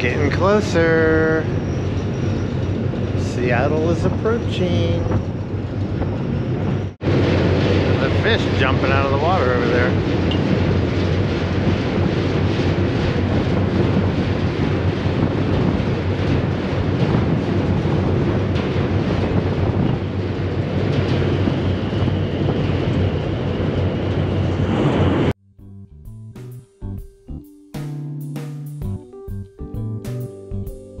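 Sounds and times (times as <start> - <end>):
low rumble of ship: 0.0 - 25.4
wind on microphone: 0.0 - 25.4.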